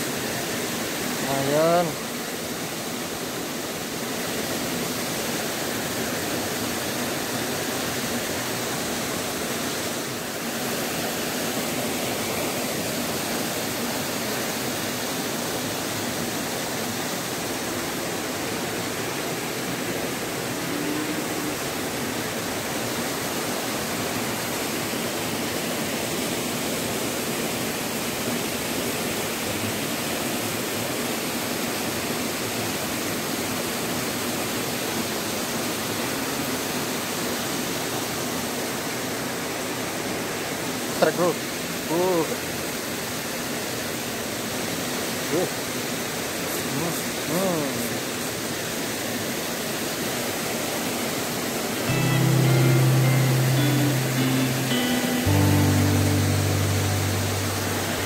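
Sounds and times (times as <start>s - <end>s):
stream rushing over stones: 0.0s - 58.0s.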